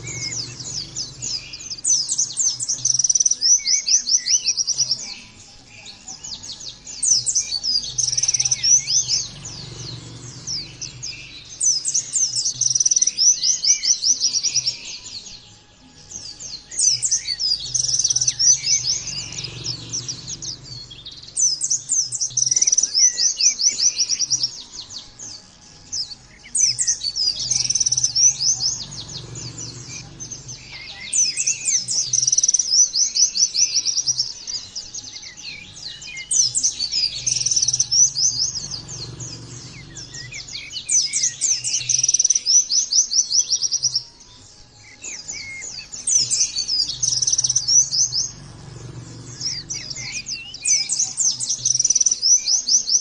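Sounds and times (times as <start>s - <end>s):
bird twittering trills: 0.0s - 53.0s.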